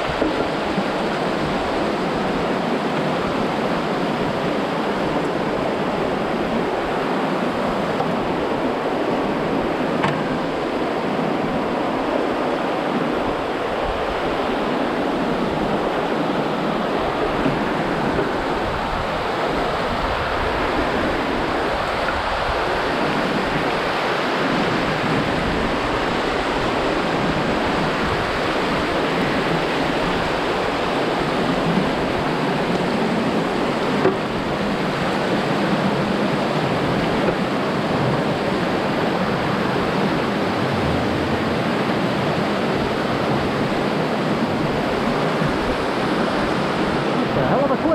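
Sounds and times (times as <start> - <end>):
river rapids rushing: 0.0 - 47.9.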